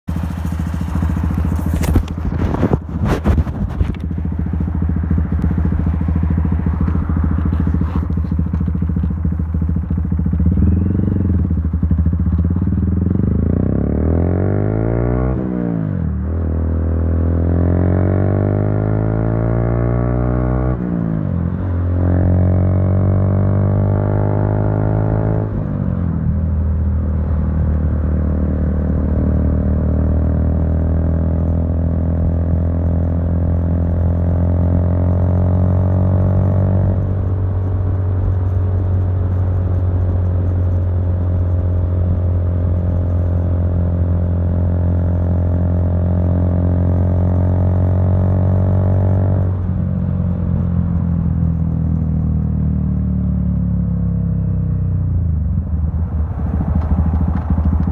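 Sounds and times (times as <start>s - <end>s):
motorcycle engine: 0.0s - 57.9s.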